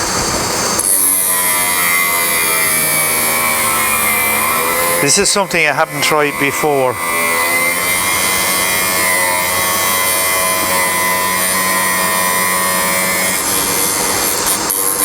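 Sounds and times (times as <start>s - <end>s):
grinding machine motor whine: 0.0s - 15.0s
high grinding hiss: 0.0s - 15.0s.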